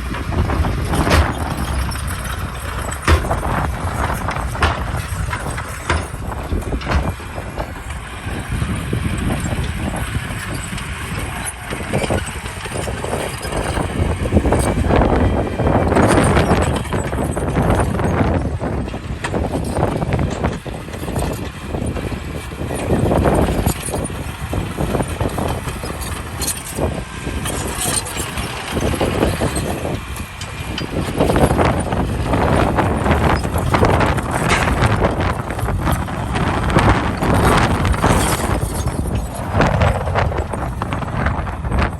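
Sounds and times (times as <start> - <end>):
diesel engine running: 0.0 - 41.9
knocks and clanks: 0.0 - 41.9.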